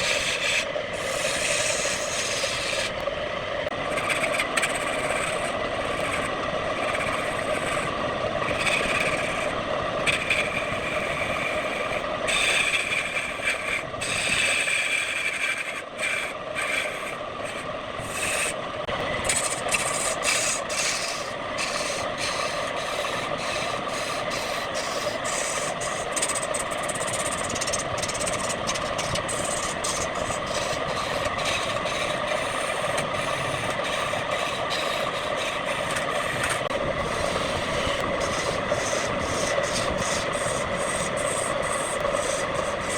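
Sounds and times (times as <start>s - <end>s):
tool scraping spinning wood: 0.0s - 3.1s, 3.7s - 42.9s
wood lathe motor whine: 0.0s - 42.9s.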